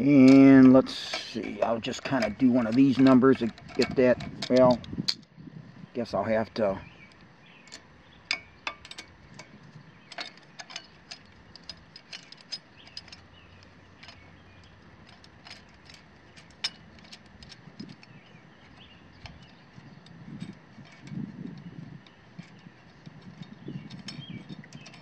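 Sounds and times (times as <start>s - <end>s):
small metallic clicks and taps: 0.2s - 5.3s, 7.1s - 25.0s.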